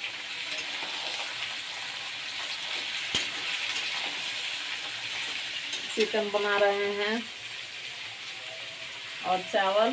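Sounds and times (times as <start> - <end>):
chicken sizzling in a pan: 0.0 - 9.9.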